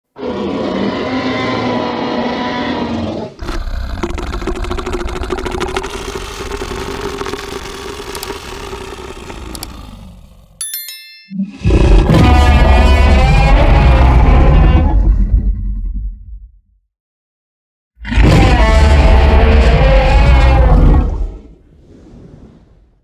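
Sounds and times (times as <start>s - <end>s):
dinosaur roar: 0.2s - 10.6s, 11.5s - 16.4s, 18.0s - 22.9s.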